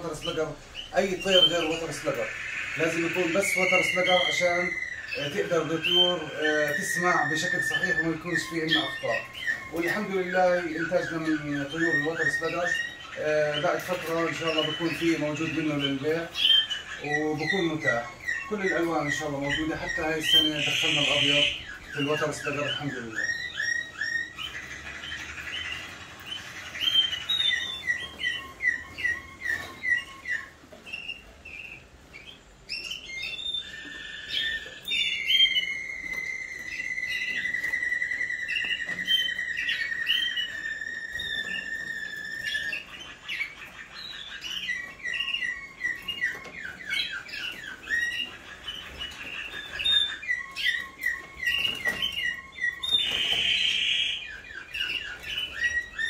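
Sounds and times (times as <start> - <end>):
canaries singing: 0.0 - 56.0
canary long trill: 0.0 - 56.0.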